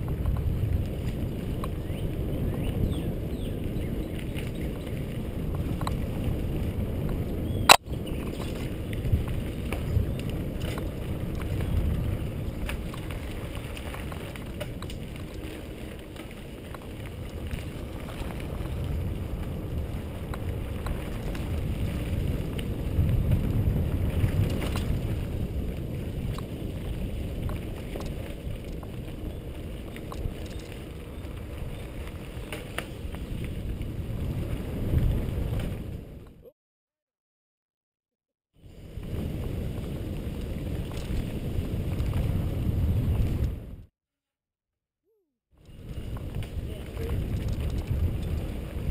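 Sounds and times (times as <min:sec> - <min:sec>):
bike tyres on dirt trail: 0:00.0 - 0:36.2, 0:38.6 - 0:43.9, 0:45.6 - 0:48.9
wind buffeting microphone: 0:00.0 - 0:36.3, 0:38.6 - 0:43.9, 0:45.6 - 0:48.9.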